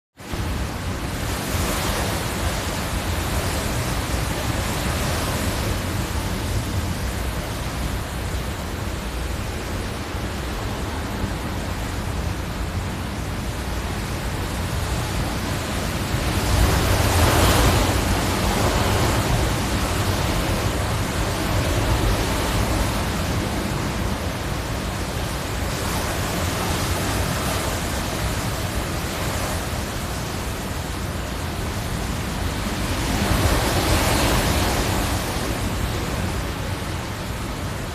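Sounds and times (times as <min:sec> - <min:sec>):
hurricane wind gusting: 0:00.2 - 0:37.9.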